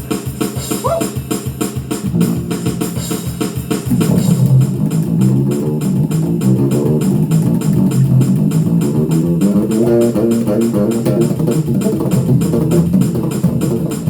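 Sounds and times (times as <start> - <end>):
fast drum beat: 0.0 - 14.0
bass guitar: 0.6 - 1.2, 2.0 - 14.0.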